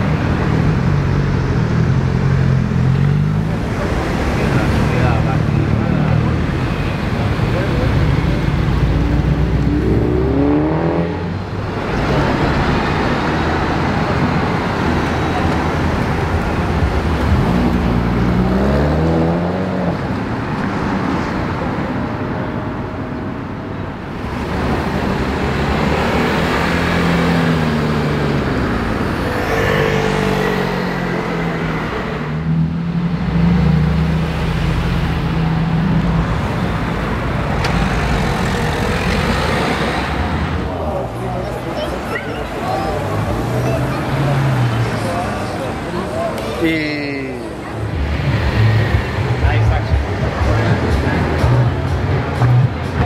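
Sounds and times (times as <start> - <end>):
cars accelerating: 0.0 - 22.3, 24.0 - 53.0
traffic noise: 0.0 - 53.0.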